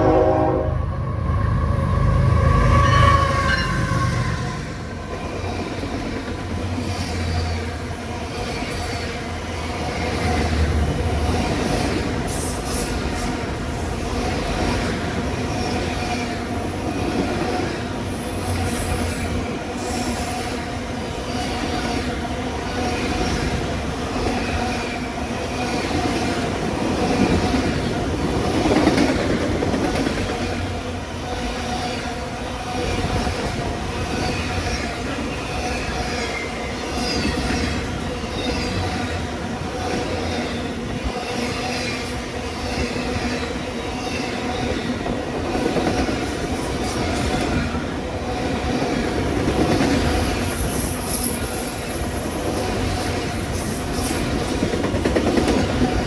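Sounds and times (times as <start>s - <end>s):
steady train drone: 0.0s - 56.0s
train wheels squealing: 0.8s - 5.7s, 6.7s - 27.9s, 32.8s - 45.0s, 45.6s - 56.0s.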